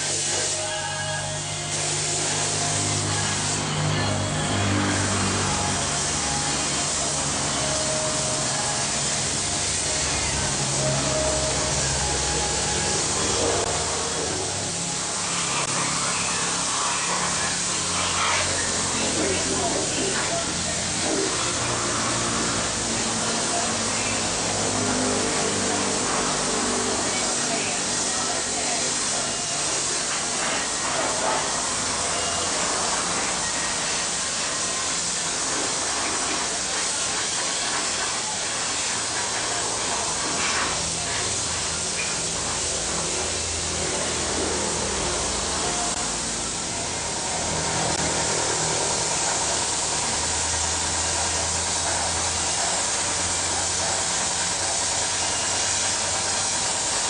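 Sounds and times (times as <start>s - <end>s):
paint spray gun hissing: 0.0s - 57.0s.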